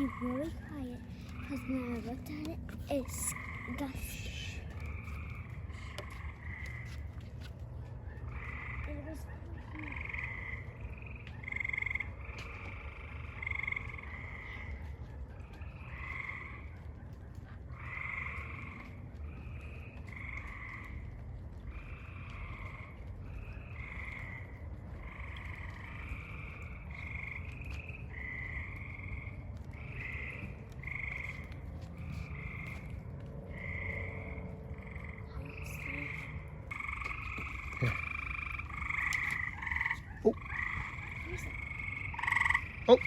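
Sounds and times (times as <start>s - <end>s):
frogs chirping in chorus: 0.0s - 7.2s, 8.0s - 43.0s.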